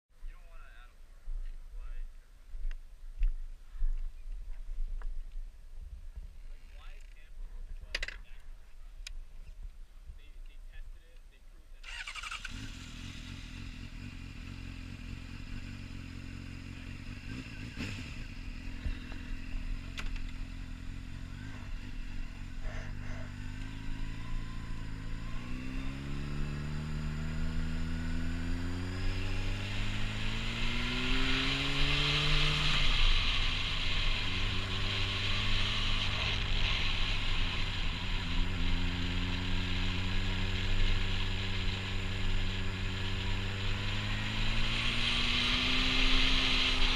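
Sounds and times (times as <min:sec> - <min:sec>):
motorcycle engine idling and revving: 0:02.7 - 0:09.6, 0:11.7 - 0:46.9.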